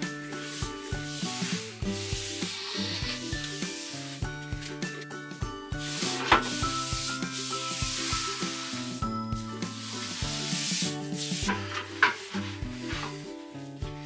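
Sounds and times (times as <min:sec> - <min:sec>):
paste rubbing strokes on wall: 0:00.0 - 0:04.4, 0:05.8 - 0:14.0.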